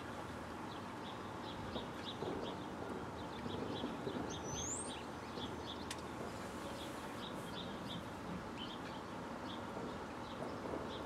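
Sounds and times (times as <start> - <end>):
low outdoor background noise: 0.0 - 11.0
small birds chirping: 0.0 - 11.0.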